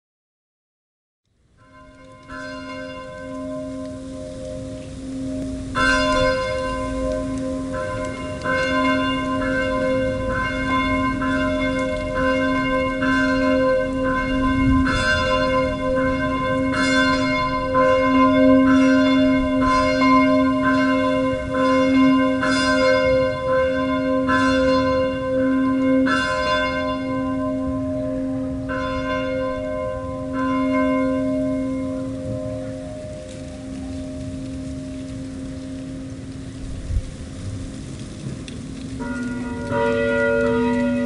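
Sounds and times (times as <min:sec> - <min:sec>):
church bell ringing: 0:01.6 - 0:36.6, 0:39.0 - 0:41.0.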